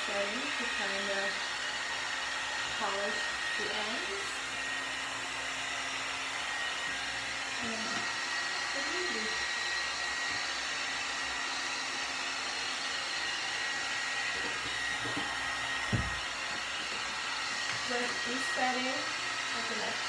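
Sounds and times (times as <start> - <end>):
hair dryer running: 0.0 - 20.0.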